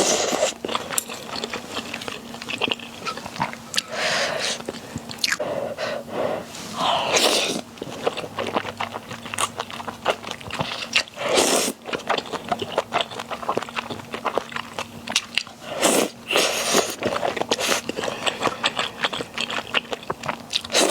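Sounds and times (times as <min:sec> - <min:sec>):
chewing with wet mouth clicks: 0:00.3 - 0:05.4, 0:07.2 - 0:20.9.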